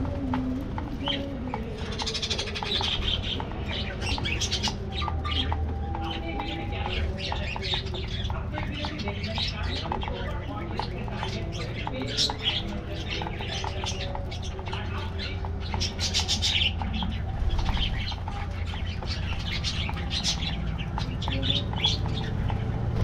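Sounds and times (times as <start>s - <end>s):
steady low hum: 0.0s - 23.0s
budgerigars chirping and squawking: 1.0s - 23.0s.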